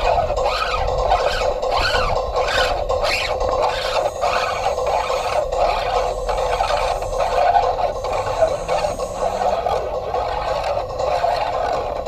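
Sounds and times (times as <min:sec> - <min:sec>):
distorted scraping and screeching noise: 0:00.0 - 0:12.0.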